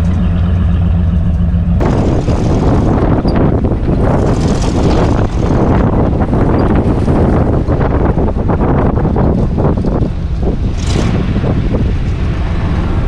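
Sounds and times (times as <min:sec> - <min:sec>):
truck engine running: 0:00.0 - 0:13.0
truck rumbling over rough ground: 0:00.0 - 0:13.0
wind on microphone: 0:01.8 - 0:13.0.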